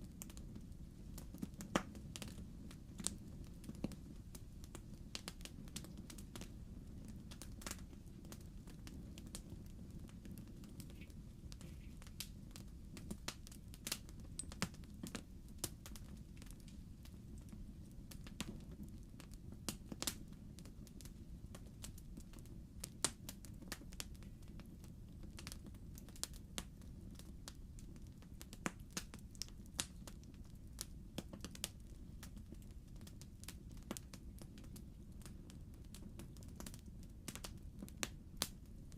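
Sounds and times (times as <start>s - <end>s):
logs crackling and popping: 0.0s - 38.8s
low rumble of fire: 0.0s - 38.9s.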